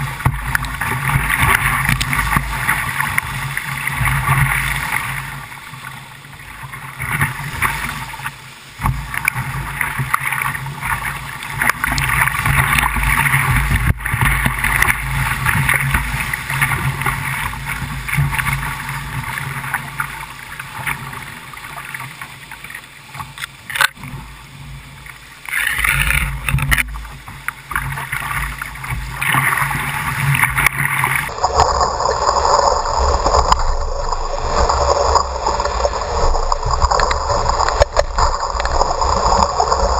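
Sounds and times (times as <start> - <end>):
water breaking over camera: 0.0 - 39.9
whitewater rapids rushing and splashing: 0.0 - 39.9.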